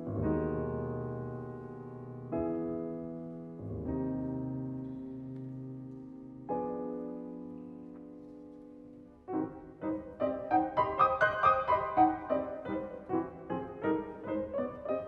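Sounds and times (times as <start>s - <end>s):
grand piano classical music: 0.0s - 15.0s.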